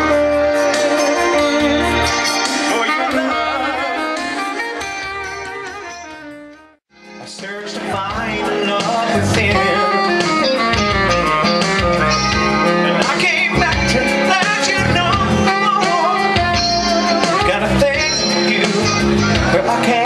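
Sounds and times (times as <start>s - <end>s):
saxophone: 0.0s - 6.8s, 8.3s - 20.0s
electric guitar: 0.0s - 20.0s
steady beat: 0.0s - 20.0s.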